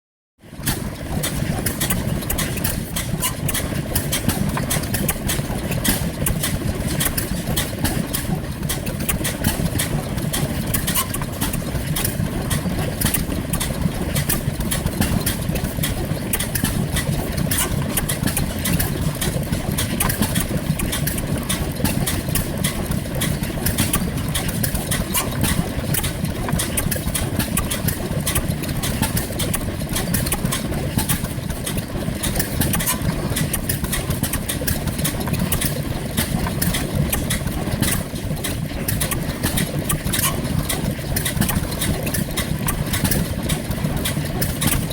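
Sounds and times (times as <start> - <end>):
gas engine running: 0.4 - 44.9.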